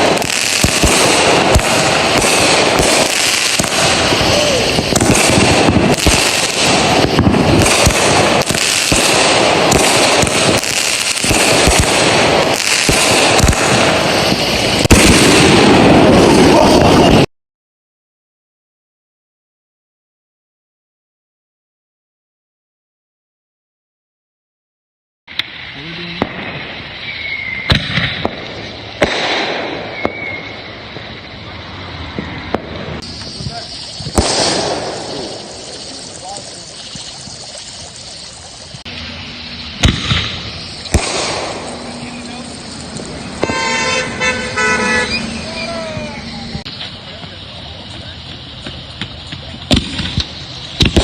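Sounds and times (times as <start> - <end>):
fireworks booms: 0.0 - 17.3, 25.3 - 51.0
fireworks hissing and crackling: 0.0 - 17.3, 25.3 - 51.0.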